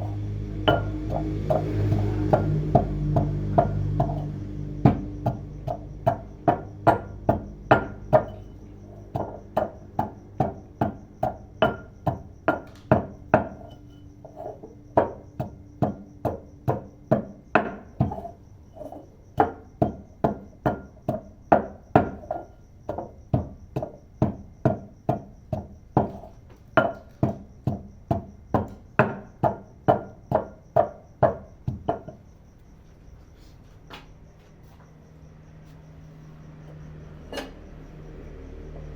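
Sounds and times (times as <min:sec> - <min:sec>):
pestle pounding in a mortar: 0:00.0 - 0:32.4.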